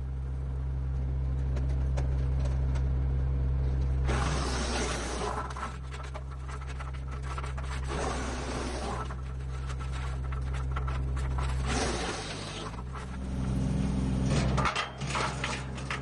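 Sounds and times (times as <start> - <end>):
wood chipper engine hum: 0.0 - 16.0
wood chipper grinding branches: 1.3 - 16.0.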